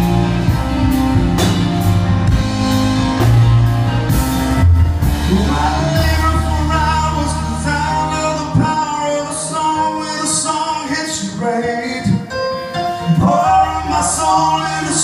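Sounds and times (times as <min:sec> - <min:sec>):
live country-rock band: 0:00.0 - 0:15.0.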